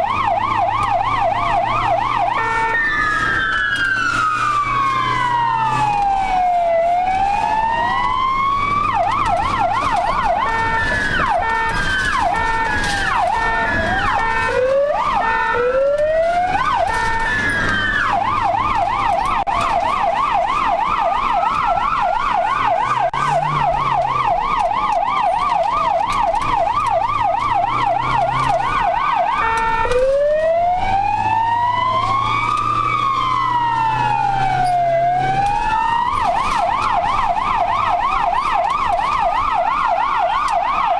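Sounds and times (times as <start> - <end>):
ambulance siren: 0.0 - 40.9
vehicle engine humming: 0.0 - 40.9.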